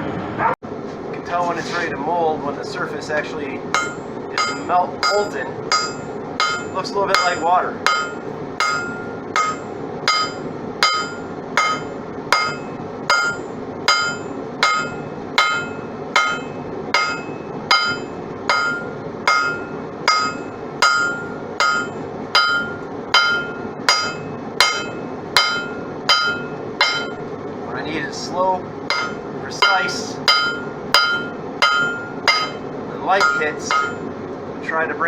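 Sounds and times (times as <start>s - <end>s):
hammer striking steel on anvil: 3.7s - 27.2s, 28.9s - 34.1s.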